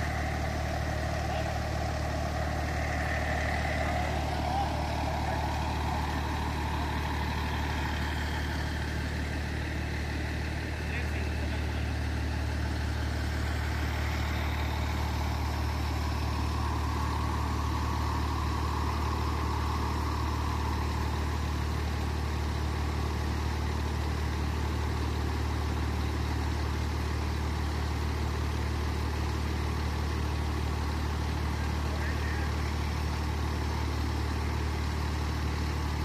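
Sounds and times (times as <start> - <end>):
fire truck engine idling: 0.0 - 36.0.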